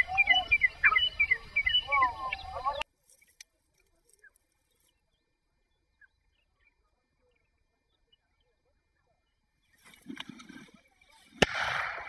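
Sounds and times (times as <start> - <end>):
faint chirps and ticks: 0.0 - 11.4.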